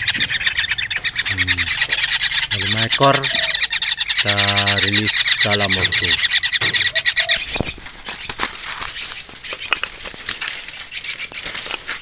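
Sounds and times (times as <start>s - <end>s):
bird chattering call: 0.0s - 11.7s
birds fluttering and rustling: 0.0s - 12.0s.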